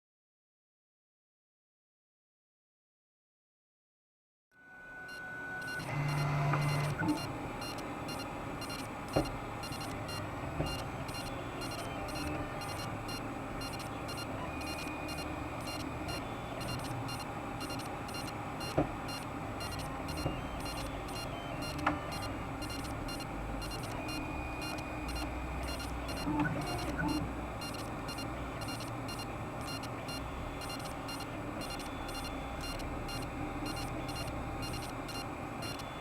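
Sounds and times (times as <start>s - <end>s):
stepper motors whining: 4.9s - 36.0s.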